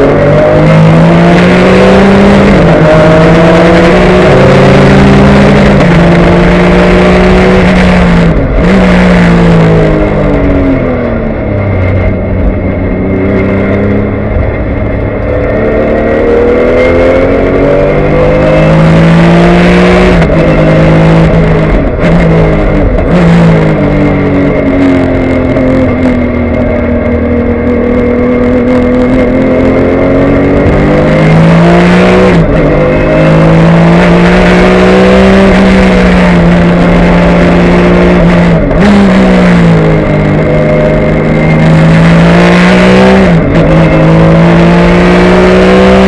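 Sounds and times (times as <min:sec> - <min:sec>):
race car engine at full pace: 0:00.0 - 0:46.0.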